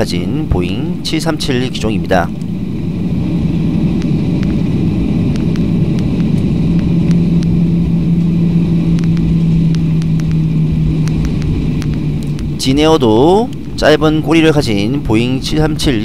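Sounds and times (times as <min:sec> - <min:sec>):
airliner engine and wheel rumble: 0:00.0 - 0:16.0
cabin hum: 0:00.0 - 0:16.0.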